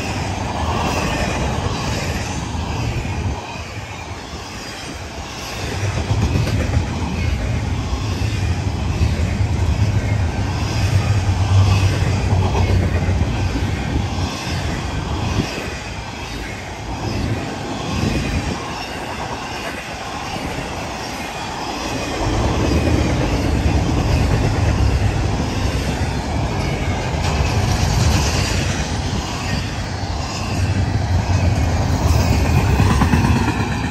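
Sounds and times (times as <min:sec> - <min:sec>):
freight cars rumbling on rails: 0:00.0 - 0:33.9.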